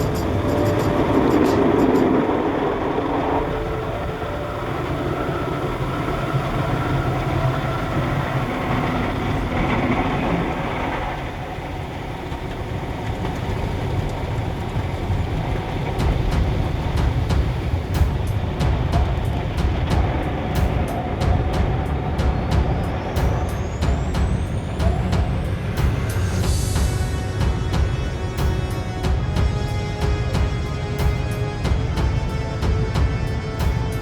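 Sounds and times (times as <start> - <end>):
car wash machine running: 0.0 - 29.5.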